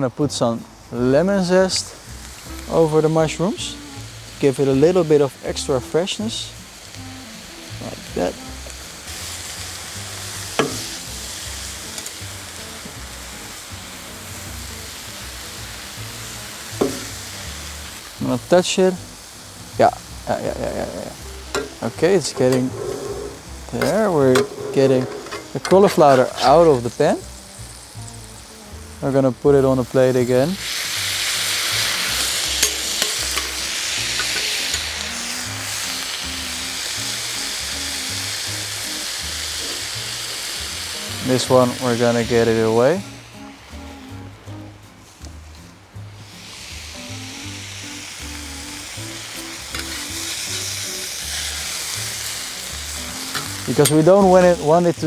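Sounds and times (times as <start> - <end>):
background music: 0.0 - 55.0
food sizzling in a pan: 0.0 - 55.0.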